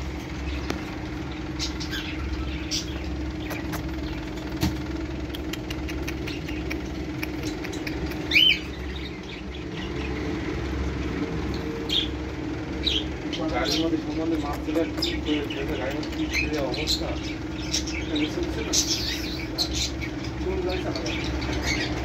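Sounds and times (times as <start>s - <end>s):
mechanical hum and low rumble: 0.0s - 22.0s.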